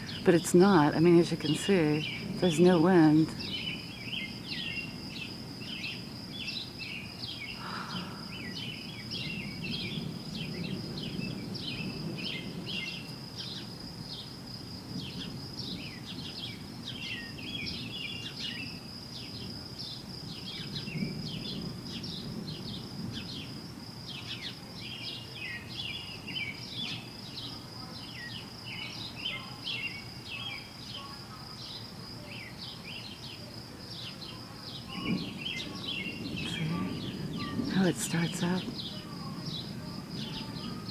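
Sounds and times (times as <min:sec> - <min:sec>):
birds chirping: 0:00.0 - 0:14.3, 0:14.9 - 0:40.9.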